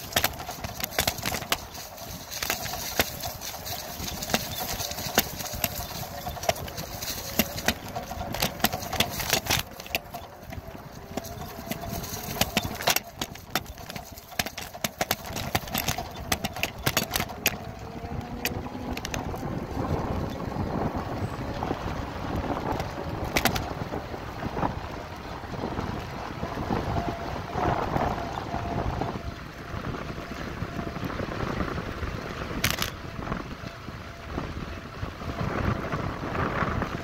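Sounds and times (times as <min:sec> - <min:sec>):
bicycle rattling over bumpy ground: 0:00.0 - 0:37.0
wind on microphone: 0:00.0 - 0:37.0.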